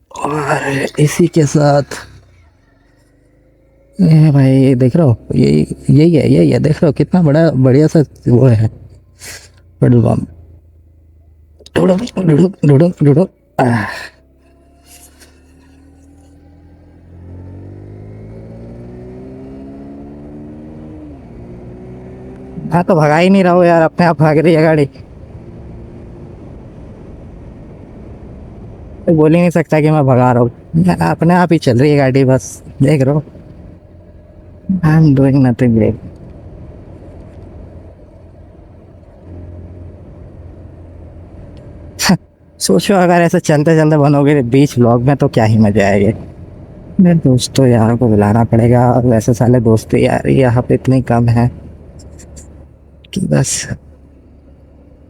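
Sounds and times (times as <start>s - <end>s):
motorcycle engine accelerating: 0.0s - 55.0s
road noise: 0.0s - 55.0s.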